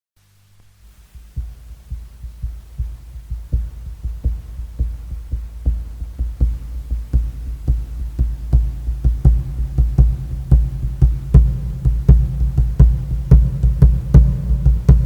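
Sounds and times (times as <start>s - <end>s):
low sustained bass notes: 0.8s - 15.0s
deep drum beats: 0.9s - 15.0s.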